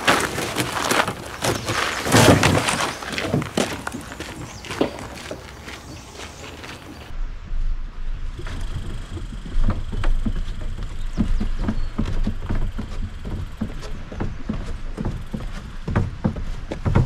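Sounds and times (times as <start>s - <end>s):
footsteps on wooden stairs: 0.0s - 7.1s, 8.8s - 17.0s.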